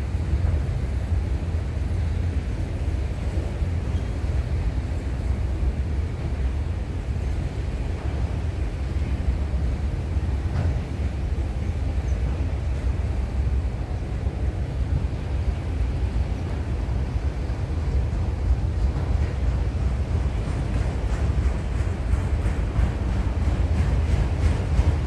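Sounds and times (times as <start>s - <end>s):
freight train wheels rumbling on rail: 0.0s - 25.0s.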